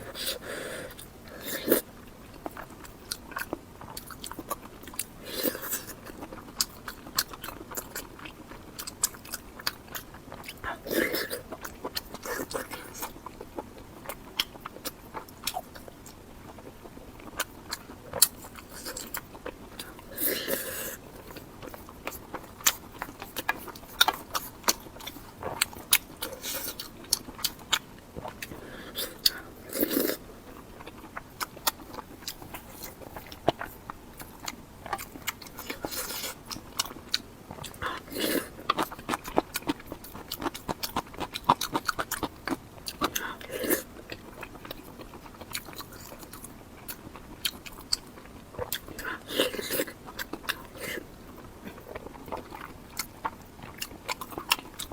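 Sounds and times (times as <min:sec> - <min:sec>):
mouth chewing and crunching: 0:00.0 - 0:54.9.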